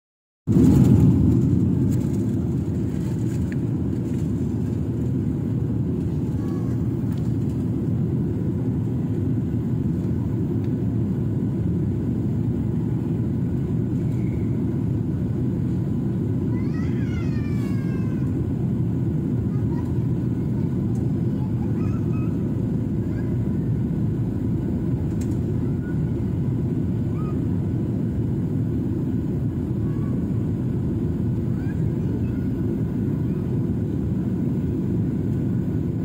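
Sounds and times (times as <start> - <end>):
airliner cabin engine rumble: 0.5 - 36.0.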